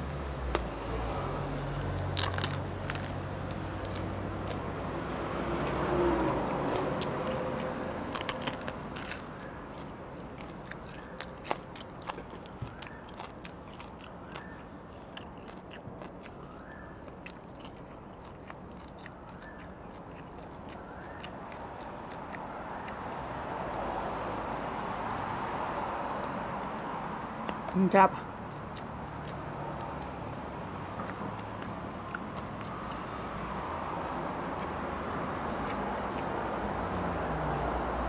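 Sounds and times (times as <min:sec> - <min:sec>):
crunchy biting and chewing: 0:00.0 - 0:38.0.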